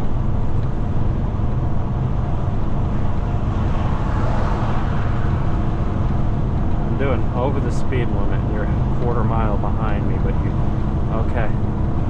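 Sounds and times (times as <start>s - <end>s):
truck engine drone in cab: 0.0s - 12.0s.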